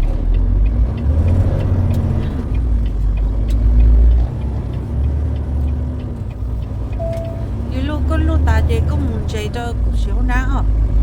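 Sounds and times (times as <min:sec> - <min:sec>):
low road rumble: 0:00.0 - 0:11.0
truck engine drone: 0:00.0 - 0:11.0.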